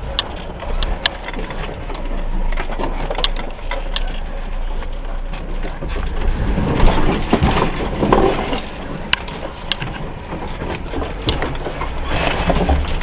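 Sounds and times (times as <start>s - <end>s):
crunching: 0.0s - 13.0s
vehicle rumbling on rough track: 0.0s - 13.0s.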